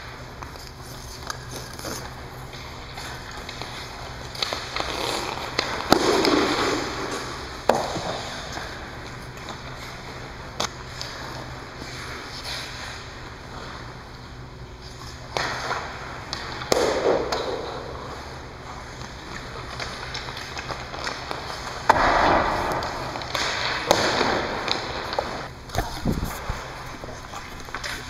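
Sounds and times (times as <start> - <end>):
hockey stick hitting puck: 0.0 - 12.9, 15.2 - 25.8
skates scraping on ice: 0.0 - 28.0.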